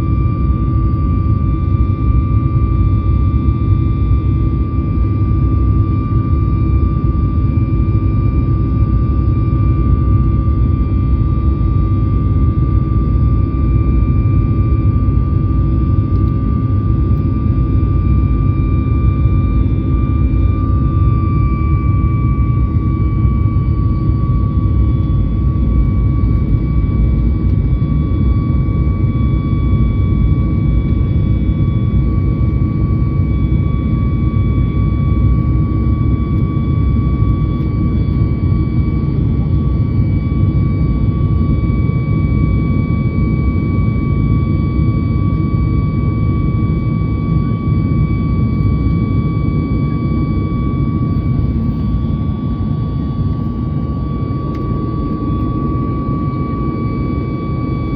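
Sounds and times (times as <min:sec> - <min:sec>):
jet engine rumble and whine: 0:00.0 - 0:57.9.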